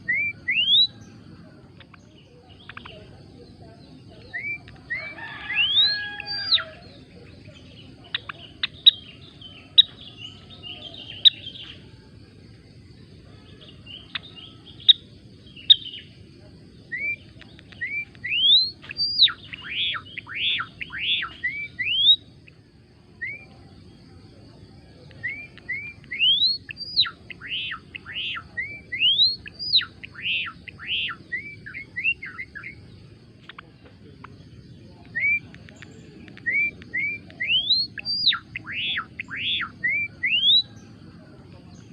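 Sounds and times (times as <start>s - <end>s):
faint steady hum: 0.0s - 41.9s
sparrow singing: 0.0s - 41.9s.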